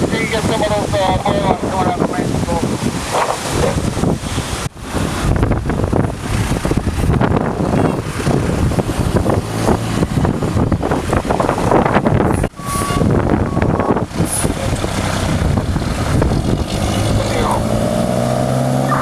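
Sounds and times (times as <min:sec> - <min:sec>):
wind buffeting the microphone: 0:00.0 - 0:18.9.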